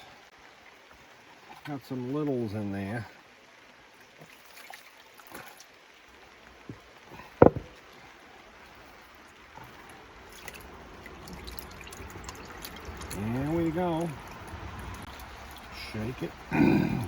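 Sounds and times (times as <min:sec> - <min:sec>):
water sloshing in a pan: 0:00.0 - 0:16.5.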